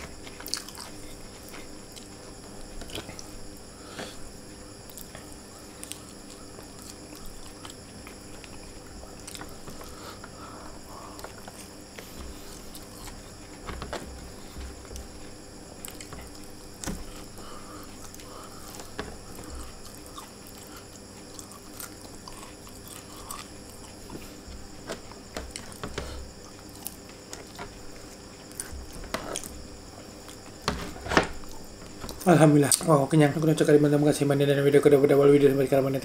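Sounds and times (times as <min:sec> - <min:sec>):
man chewing food: 0:00.0 - 0:32.3.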